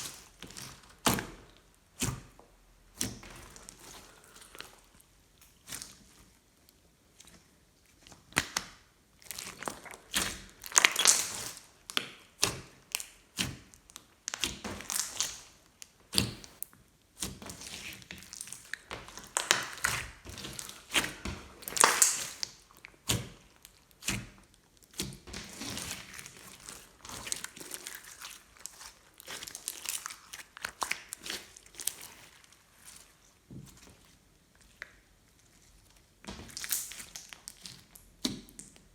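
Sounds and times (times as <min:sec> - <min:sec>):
slime squelching and crackling: 0:00.0 - 0:38.9.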